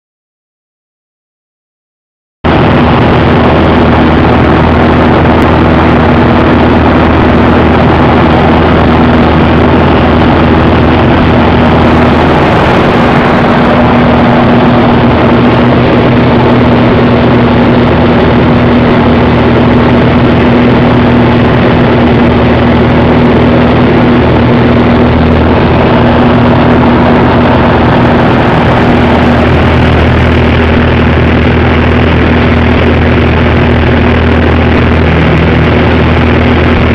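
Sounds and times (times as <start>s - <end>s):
propeller engine drone: 2.4s - 36.9s
wind and propeller wash: 2.5s - 36.9s.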